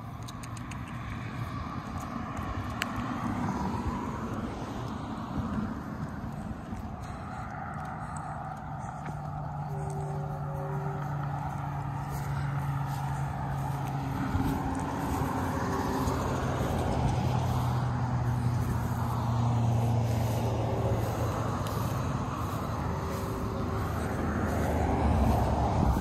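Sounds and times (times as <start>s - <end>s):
cars passing: 0.0s - 26.0s
engine hum and tyre noise: 0.0s - 26.0s.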